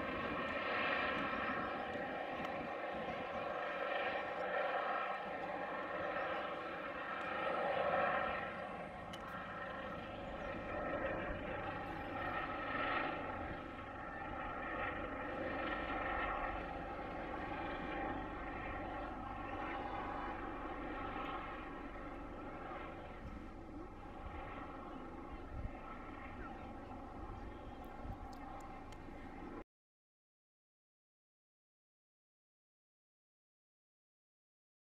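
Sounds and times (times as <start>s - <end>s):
helicopter flying overhead: 0.0s - 29.6s.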